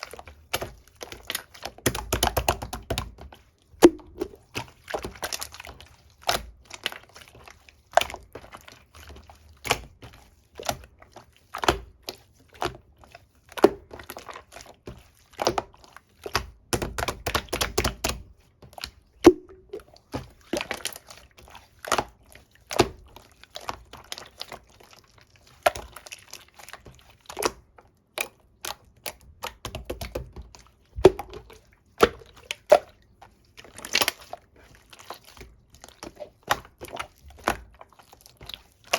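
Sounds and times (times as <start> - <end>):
slime squishing by hand: 0.0 - 38.9.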